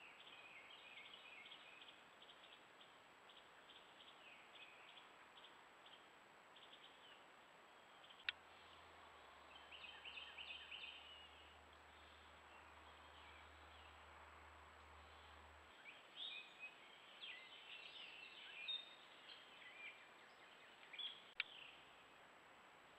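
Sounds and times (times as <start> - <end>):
faint bird chirps: 0.0 - 22.2
faint low hum: 0.0 - 22.9.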